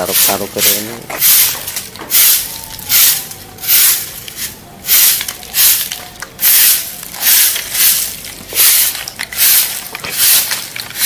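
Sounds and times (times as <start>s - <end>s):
broom sweeping leaves on paving: 0.0s - 11.0s.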